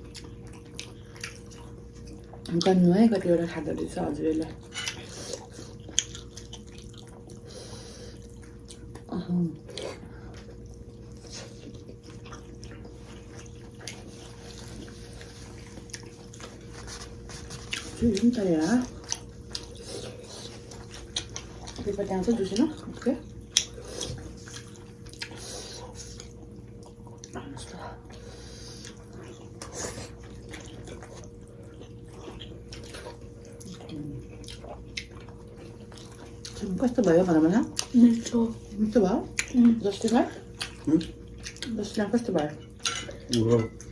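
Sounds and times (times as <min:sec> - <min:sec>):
wet chewing and mouth smacks: 0:00.0 - 0:02.8, 0:04.9 - 0:21.9, 0:22.6 - 0:36.7, 0:39.2 - 0:41.8
steady low hum: 0:00.0 - 0:43.9.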